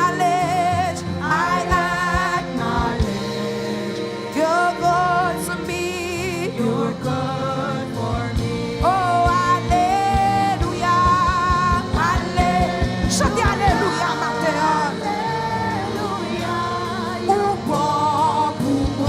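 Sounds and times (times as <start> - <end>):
gospel music with steady beat: 0.0 - 19.0.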